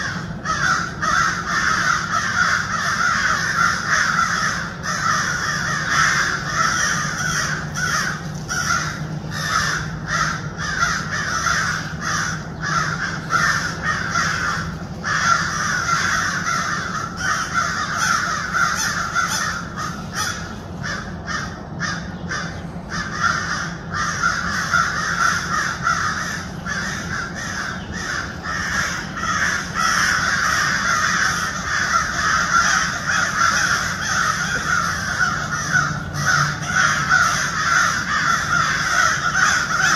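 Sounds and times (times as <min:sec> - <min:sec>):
harsh calls: 0:00.0 - 0:39.9.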